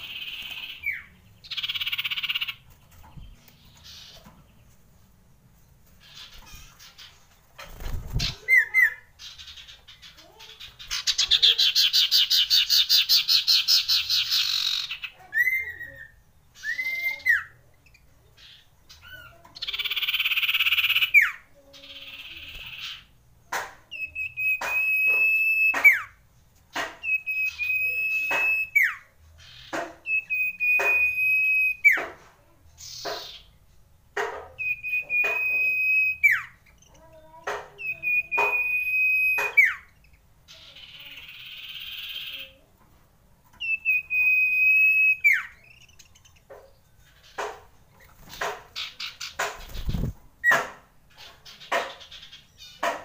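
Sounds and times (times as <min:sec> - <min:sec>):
bird singing: 0:00.0 - 0:04.8, 0:06.0 - 0:23.1, 0:23.9 - 0:26.2, 0:27.0 - 0:32.0, 0:34.5 - 0:42.6, 0:43.5 - 0:53.0.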